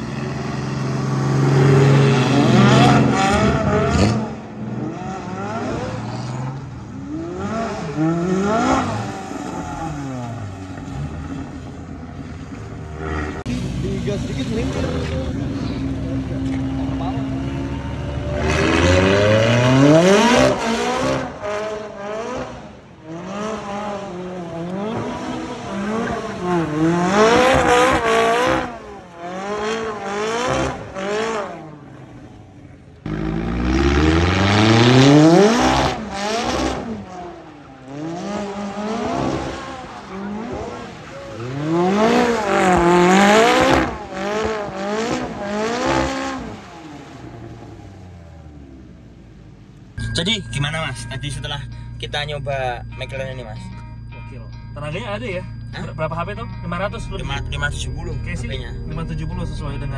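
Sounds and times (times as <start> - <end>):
sports car engine revving: 0.0 - 49.6.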